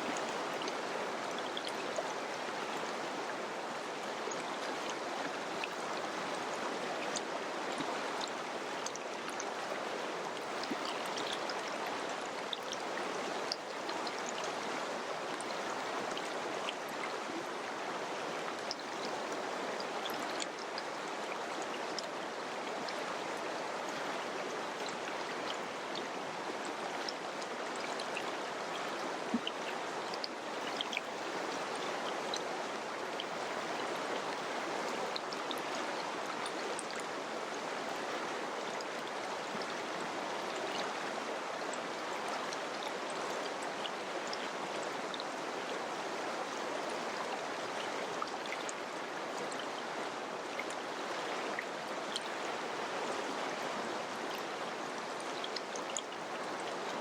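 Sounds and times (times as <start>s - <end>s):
water splashes and drips: 0.0s - 57.0s.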